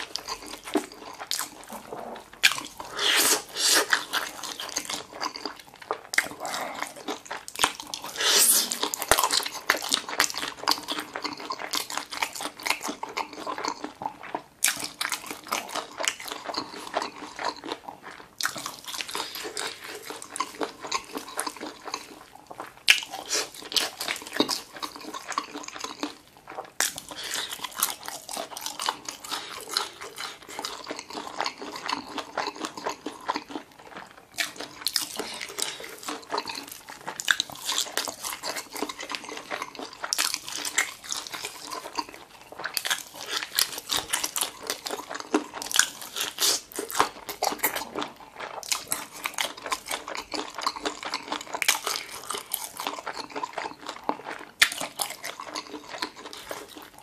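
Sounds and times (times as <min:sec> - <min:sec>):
chewing and biting: 0:00.0 - 0:57.0.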